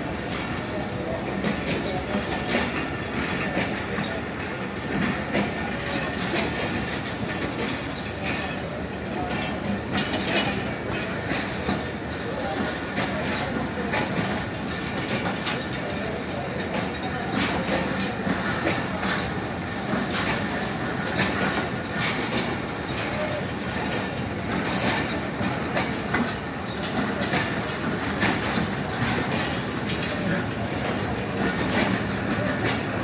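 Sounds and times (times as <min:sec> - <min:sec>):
train coaches rumbling past: 0:00.0 - 0:33.0
wheels clattering over rail joints: 0:00.1 - 0:33.0.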